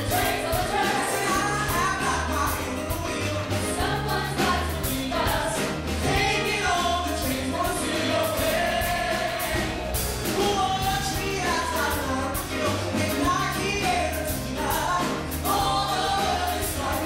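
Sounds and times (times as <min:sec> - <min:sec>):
grand piano: 0:00.0 - 0:17.0
vocal ensemble singing in harmony: 0:00.0 - 0:17.0.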